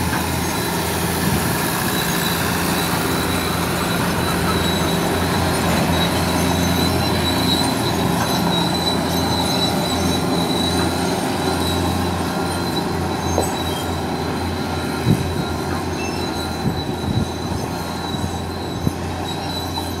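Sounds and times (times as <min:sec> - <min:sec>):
excavator diesel engine: 0:00.0 - 0:20.0.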